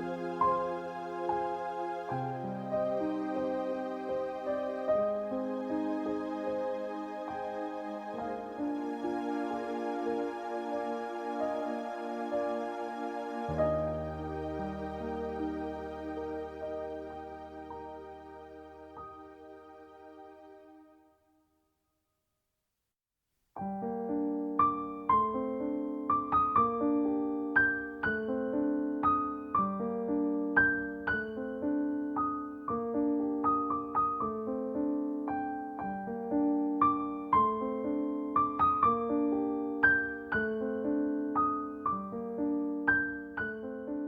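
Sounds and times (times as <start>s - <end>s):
gentle piano piece: 0.0s - 21.0s, 23.6s - 44.0s.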